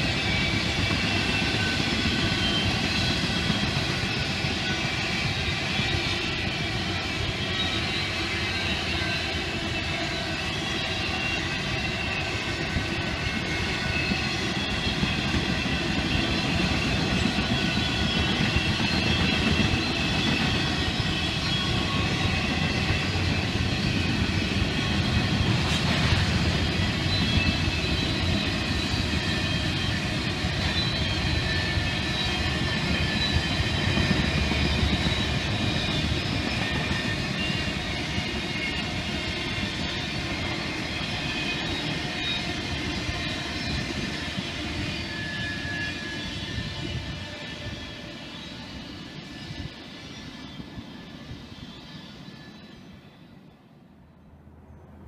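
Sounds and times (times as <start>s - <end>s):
train wheels rumbling on rail: 0.0s - 53.5s.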